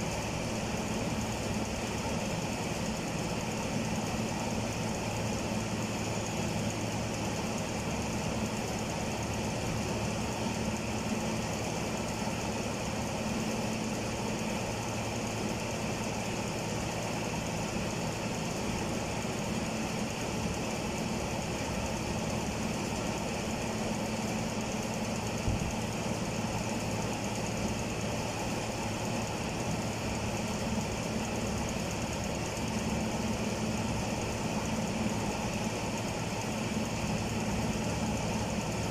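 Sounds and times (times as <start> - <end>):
machine motor drone: 0.0 - 38.9.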